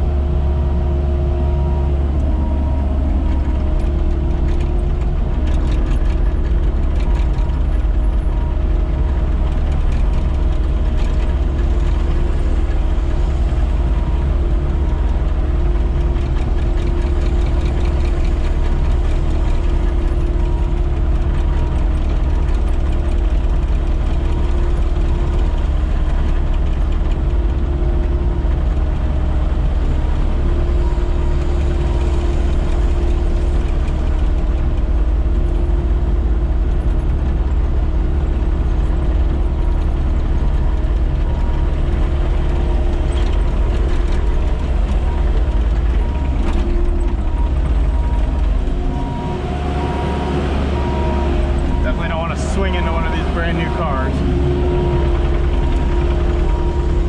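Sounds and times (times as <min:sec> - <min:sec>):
constant hum: 0:00.0 - 0:57.0
diesel engine running: 0:00.0 - 0:57.0.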